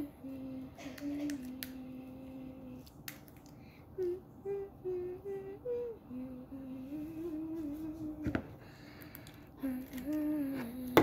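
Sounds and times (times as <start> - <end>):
girl humming: 0.0 - 2.9, 3.9 - 8.5, 9.5 - 11.0.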